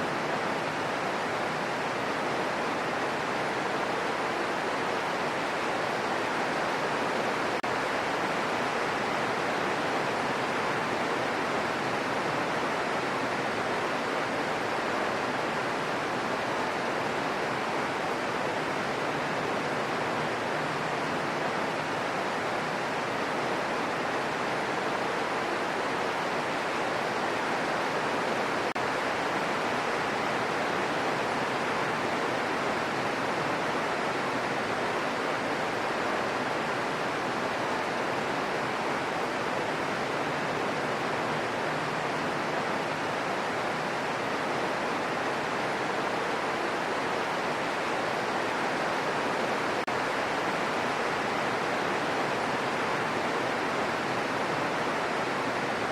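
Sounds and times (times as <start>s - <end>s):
gentle steady rain: 0.0s - 55.9s.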